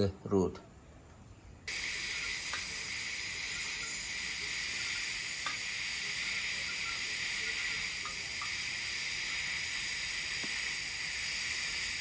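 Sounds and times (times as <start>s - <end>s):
welding arc hissing: 1.7s - 12.0s.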